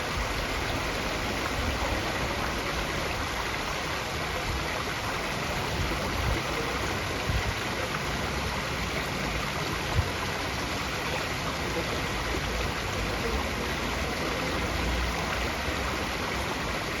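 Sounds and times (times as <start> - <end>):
flowing water: 0.0 - 17.0.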